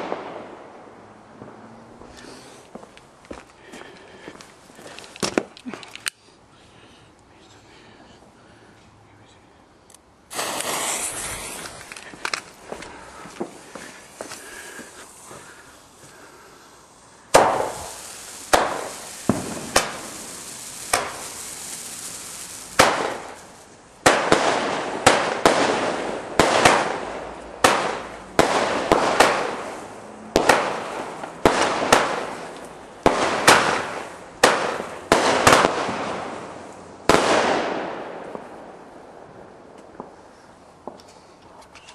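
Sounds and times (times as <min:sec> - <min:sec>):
firework bangs with hiss: 0:00.0 - 0:05.8, 0:10.3 - 0:41.3.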